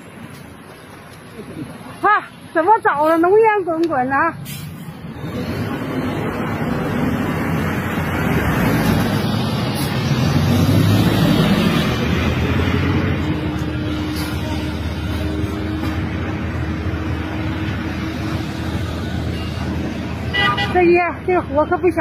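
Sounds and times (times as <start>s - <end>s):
street traffic: 0.0s - 22.0s
school bus driving past: 4.4s - 22.0s.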